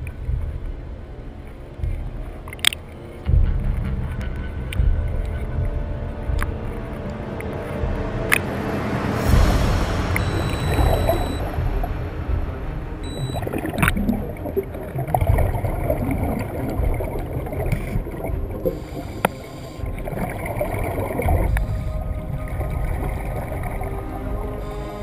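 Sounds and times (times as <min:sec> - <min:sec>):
low underwater rumble: 0:00.0 - 0:25.0.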